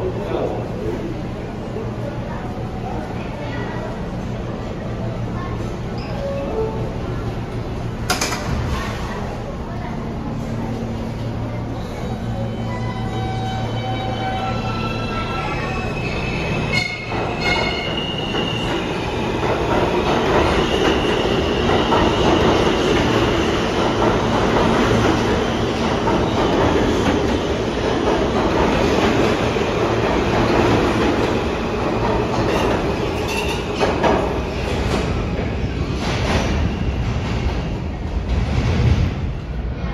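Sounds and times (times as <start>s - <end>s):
subway train propulsion whine: 0.0s - 39.9s
train wheels rumbling on rails: 7.2s - 39.9s.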